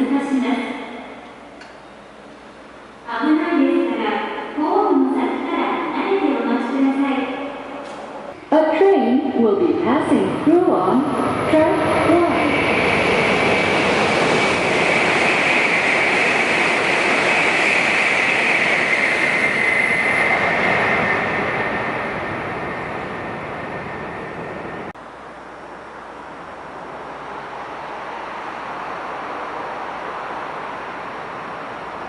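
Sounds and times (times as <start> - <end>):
high-speed train passing: 0.0 - 32.0.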